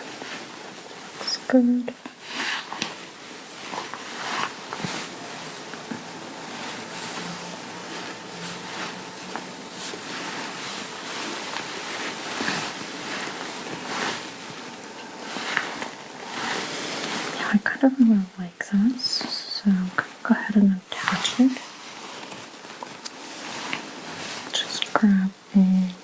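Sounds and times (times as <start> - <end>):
fabric rustling: 0.0 - 26.0
steady hiss: 0.0 - 26.0.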